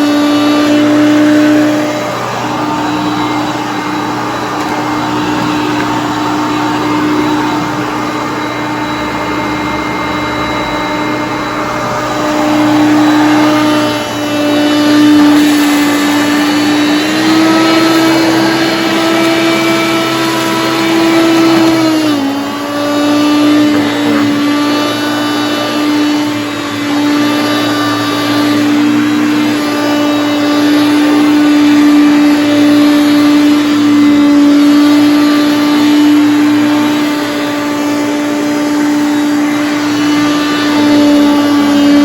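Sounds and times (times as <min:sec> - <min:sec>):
vacuum cleaner motor hum: 0:00.0 - 0:42.0.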